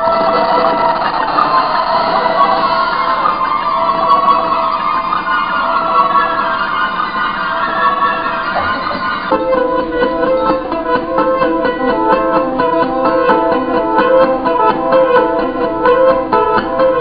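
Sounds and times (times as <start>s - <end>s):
fast plucked-string riff: 0.0s - 17.0s
steady held note: 0.0s - 17.0s.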